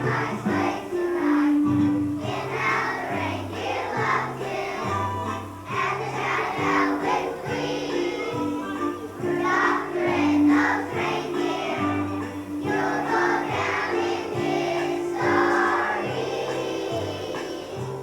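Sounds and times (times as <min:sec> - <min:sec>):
children's choir singing: 0:00.0 - 0:18.0
instrumental accompaniment: 0:00.0 - 0:18.0.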